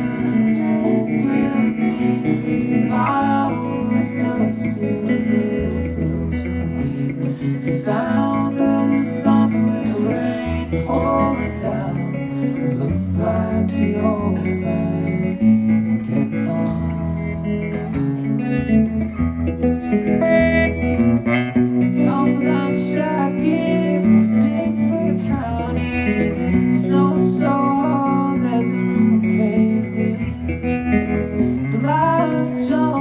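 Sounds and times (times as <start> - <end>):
electric guitar melody: 0.0 - 33.0.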